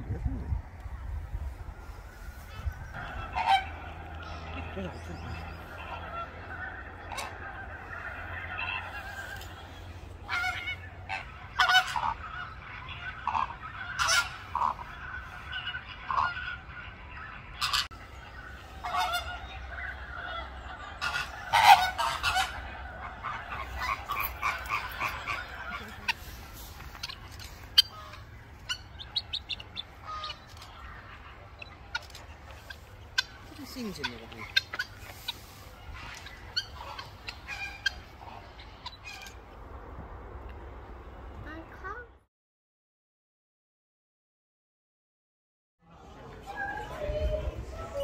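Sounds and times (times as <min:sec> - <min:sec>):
flamingos honking: 0:00.4 - 0:41.2.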